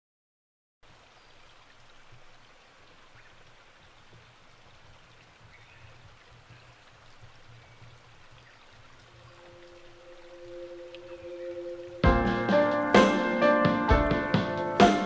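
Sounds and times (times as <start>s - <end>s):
running water: 0.8s - 15.0s.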